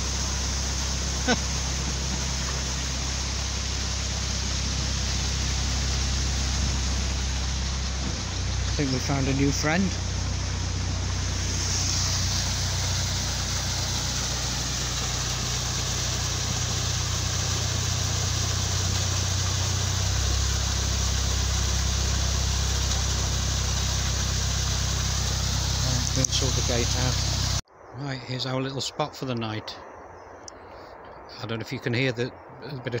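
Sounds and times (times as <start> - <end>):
diesel engine idling: 0.0 - 27.6.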